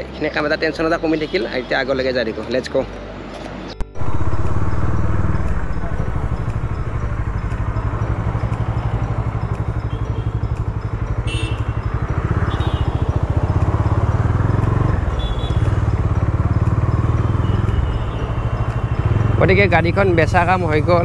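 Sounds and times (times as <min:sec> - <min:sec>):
motorcycle engine running: 0:03.9 - 0:21.0.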